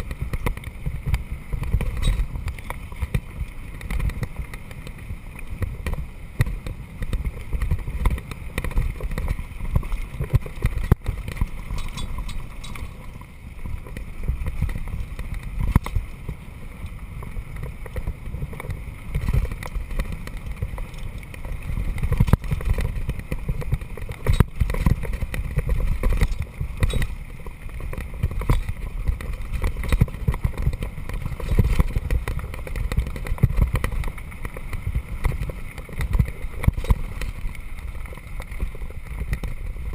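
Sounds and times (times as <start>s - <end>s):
bike rattling and clicking: 0.0s - 39.9s
bike tyres rolling on gravel: 0.0s - 39.9s.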